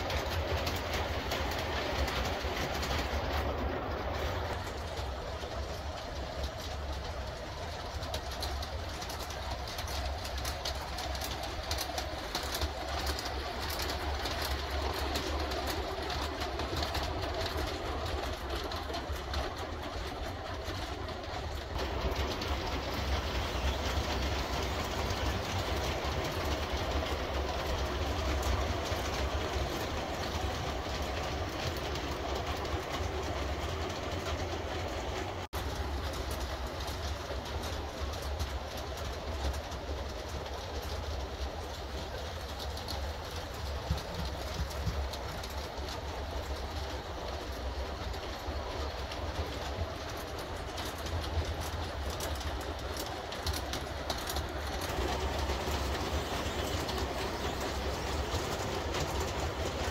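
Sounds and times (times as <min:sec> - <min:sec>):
model train rolling rumble: 0:00.0 - 0:59.9
wheels clicking on rails: 0:00.0 - 0:59.9.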